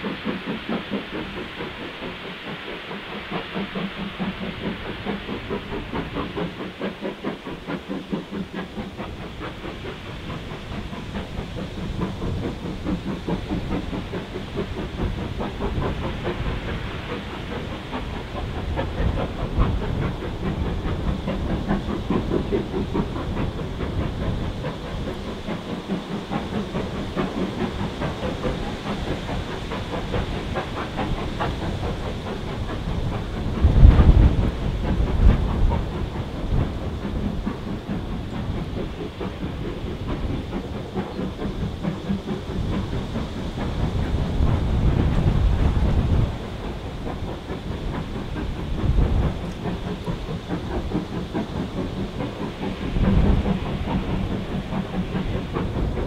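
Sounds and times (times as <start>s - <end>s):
steam hissing: 0.0s - 56.0s
steam locomotive exhaust beating: 0.0s - 56.0s.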